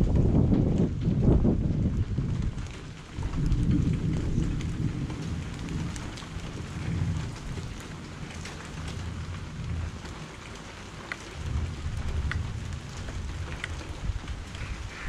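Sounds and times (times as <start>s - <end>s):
distant thunder rumble: 0.0s - 15.0s
raindrops striking close by: 0.0s - 15.0s
steady rain falling: 0.0s - 15.0s.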